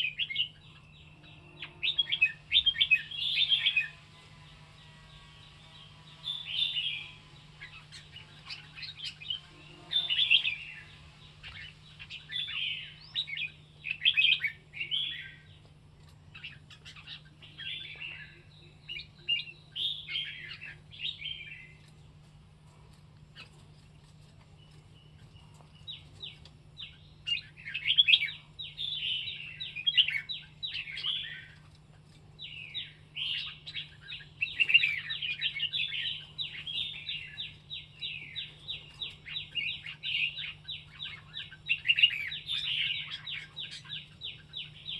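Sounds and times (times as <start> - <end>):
faint low hum: 0.0 - 44.9.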